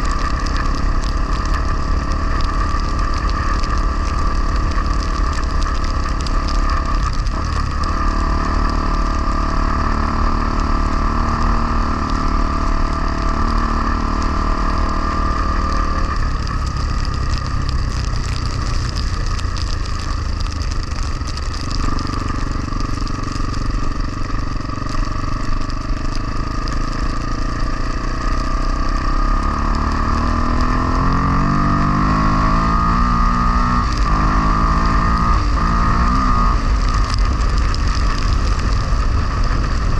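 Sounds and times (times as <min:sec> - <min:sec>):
dirt bike engine running: 0:00.0 - 0:39.9
wind rumble on microphone: 0:00.0 - 0:39.9.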